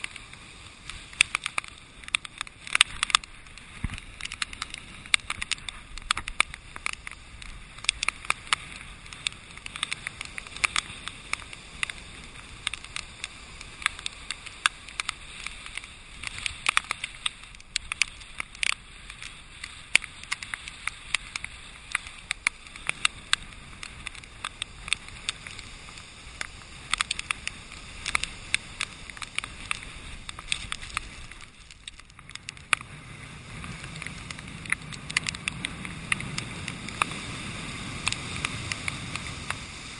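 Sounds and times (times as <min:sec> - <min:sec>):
muffled storm surf: 0:00.0 - 0:39.9
muffled wind: 0:00.0 - 0:39.9
rain and spray striking a case: 0:00.0 - 0:39.9.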